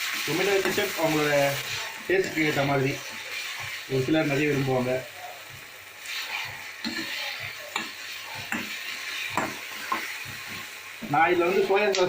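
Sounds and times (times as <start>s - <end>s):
spoon scraping and knocking pan: 0.0s - 11.8s
gravy sizzling in a pan: 0.0s - 12.0s.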